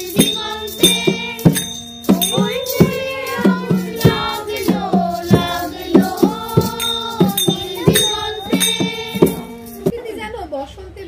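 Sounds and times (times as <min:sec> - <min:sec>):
hand drum beat: 0:00.0 - 0:09.9
women and girls singing: 0:00.0 - 0:09.9.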